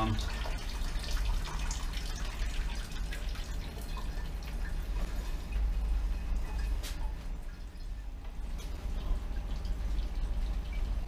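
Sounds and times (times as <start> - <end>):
low steady hum: 0.0 - 11.0
wine dripping and trickling: 0.0 - 11.0.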